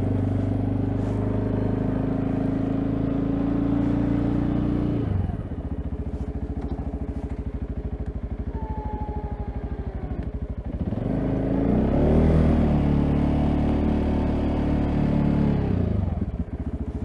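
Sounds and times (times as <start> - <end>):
engine idling and revving: 0.0 - 17.0.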